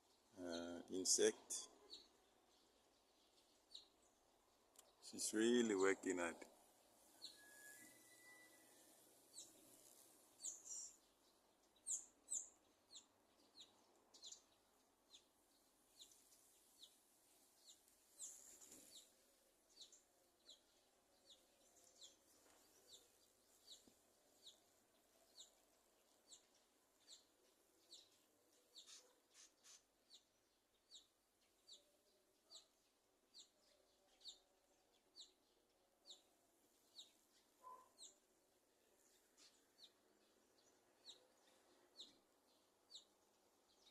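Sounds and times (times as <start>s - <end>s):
small bird chirping: 0.0s - 43.9s.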